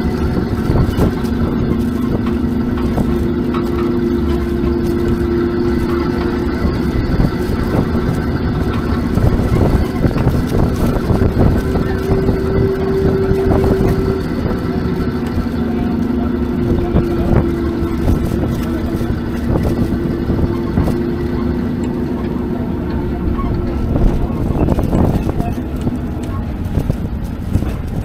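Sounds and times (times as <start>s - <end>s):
tram rumbling: 0.0s - 28.0s.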